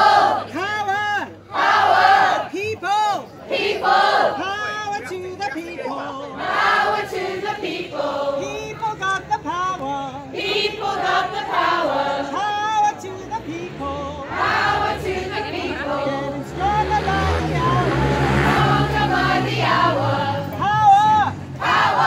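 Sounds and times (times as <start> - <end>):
crowd singing together: 0.0 - 0.7, 1.5 - 2.6, 3.3 - 22.0.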